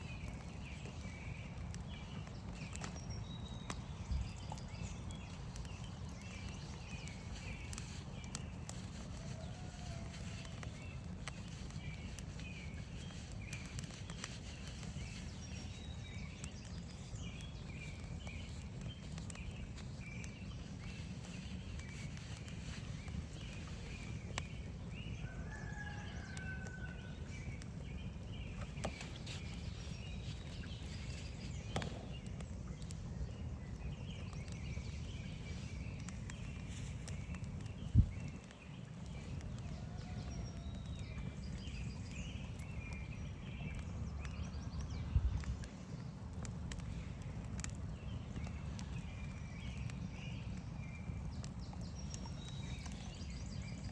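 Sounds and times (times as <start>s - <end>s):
birds chirping: 0.0s - 53.9s
campfire crackling and popping: 0.0s - 53.9s.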